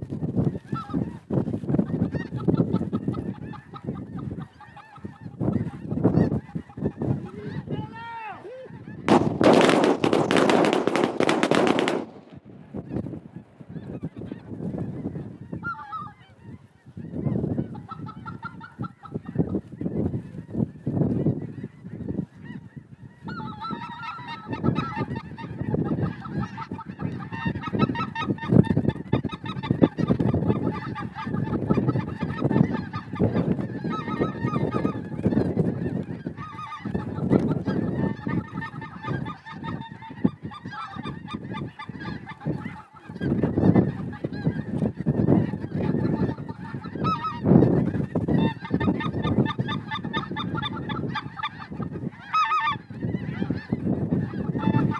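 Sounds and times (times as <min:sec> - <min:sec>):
geese honking: 0:00.4 - 0:54.9.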